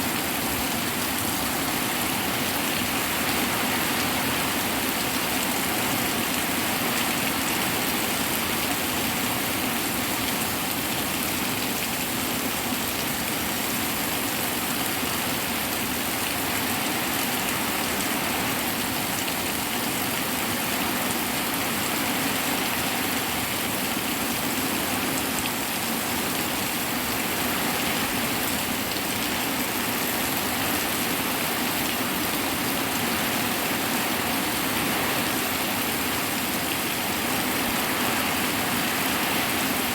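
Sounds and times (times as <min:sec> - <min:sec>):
hard rain falling: 0:00.0 - 0:39.9.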